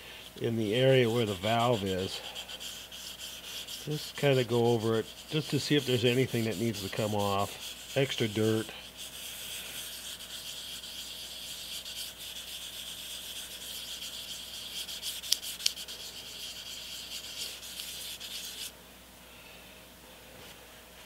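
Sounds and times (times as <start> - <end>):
metal plate rubbing on abrasive sheet: 0.0 - 18.7.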